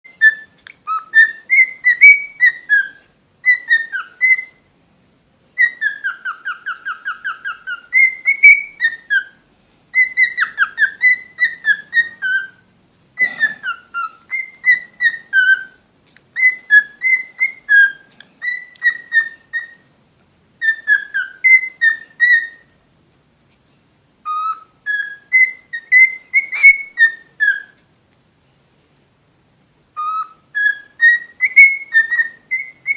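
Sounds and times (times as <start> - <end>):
songbird singing whistled phrases: 0.1 - 4.7, 5.6 - 19.9, 20.6 - 22.7, 24.2 - 27.8, 29.9 - 32.9.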